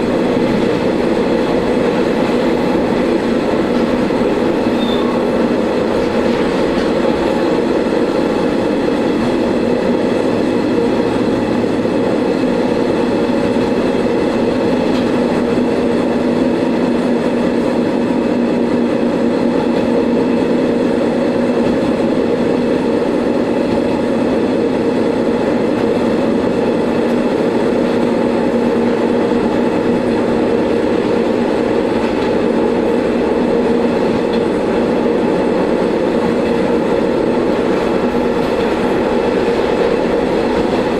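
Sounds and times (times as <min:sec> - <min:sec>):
diesel railcar engine drone: 0:00.0 - 0:40.9.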